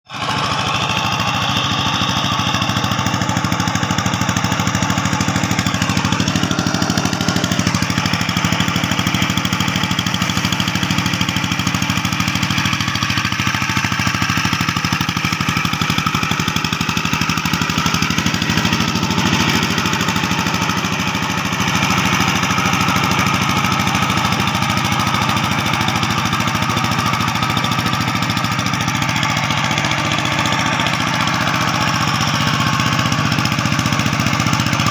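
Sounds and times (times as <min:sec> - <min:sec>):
tractor engine chugging: 0:00.1 - 0:34.9.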